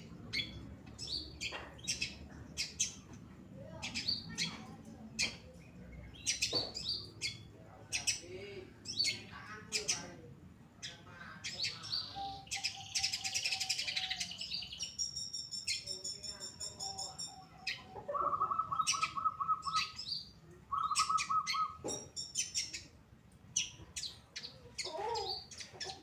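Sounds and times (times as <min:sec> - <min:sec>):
bird chirping and trilling: 0:00.3 - 0:03.1, 0:03.7 - 0:10.2, 0:10.8 - 0:26.0.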